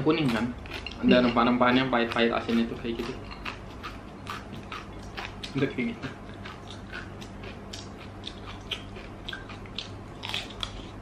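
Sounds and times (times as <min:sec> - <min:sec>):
faint low hum: 0:00.0 - 0:11.0
chewing and lip smacks: 0:00.3 - 0:11.0.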